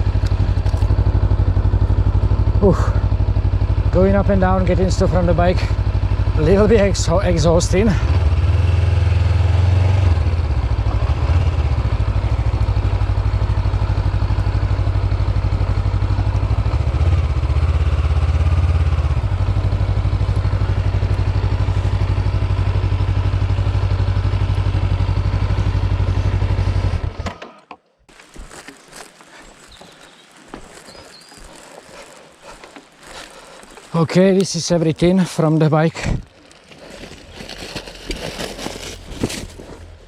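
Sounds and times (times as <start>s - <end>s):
motorcycle engine idling: 0.0s - 27.2s, 28.2s - 40.0s.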